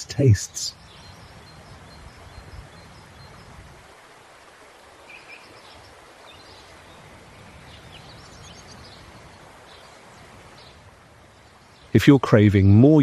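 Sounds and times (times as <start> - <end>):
faint bird chirps: 0.0 - 3.6, 5.0 - 12.0
outdoor background hiss: 0.0 - 13.0.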